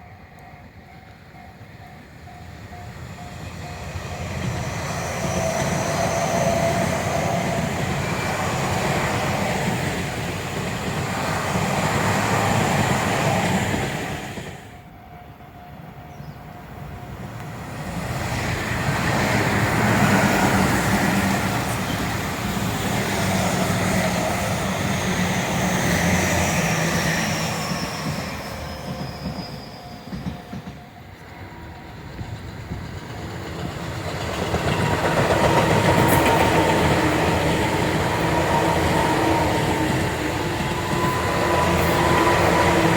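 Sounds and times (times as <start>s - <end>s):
train wheel squeal: 0.0s - 42.9s
train wheels clickety-clack: 2.7s - 14.8s, 18.2s - 42.9s.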